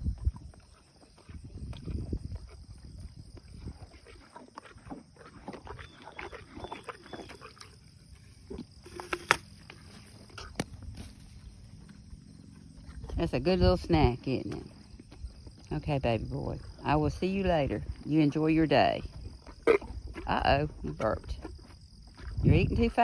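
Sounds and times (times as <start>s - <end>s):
donkey chewing with crisp crunches: 0.0s - 23.0s.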